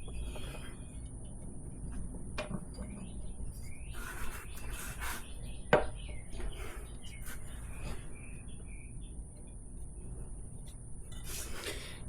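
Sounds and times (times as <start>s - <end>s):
small birds chirping: 0.0s - 2.0s, 2.6s - 11.6s.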